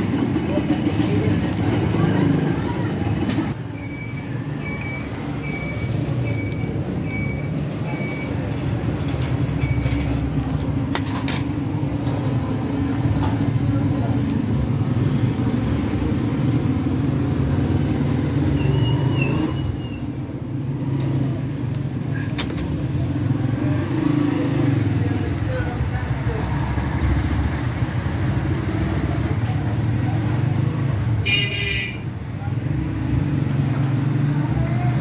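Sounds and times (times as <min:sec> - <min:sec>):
engine rumbling: 0:00.0 - 0:31.2.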